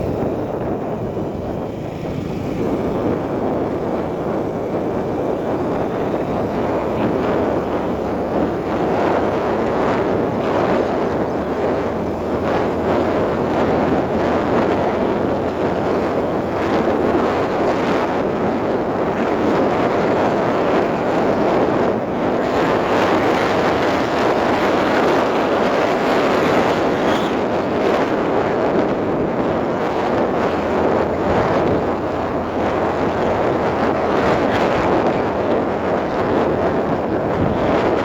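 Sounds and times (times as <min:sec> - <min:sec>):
moving vehicle: 0:00.0 - 0:38.0
wind on microphone: 0:00.0 - 0:38.0.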